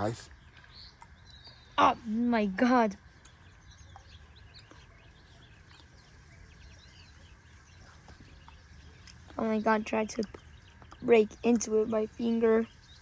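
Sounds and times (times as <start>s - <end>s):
birds chirping: 0.0s - 13.0s
low steady hum: 0.0s - 13.0s.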